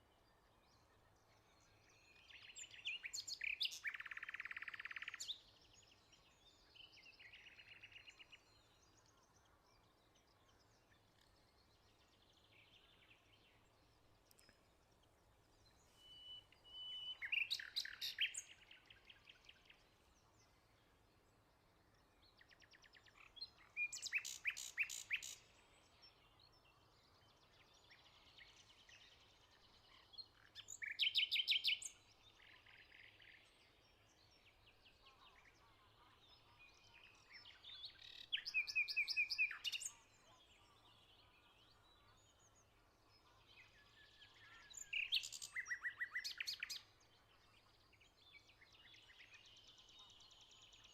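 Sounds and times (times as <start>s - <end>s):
wild birds calling and singing: 0.3s - 21.0s, 21.9s - 35.6s, 36.2s - 50.9s.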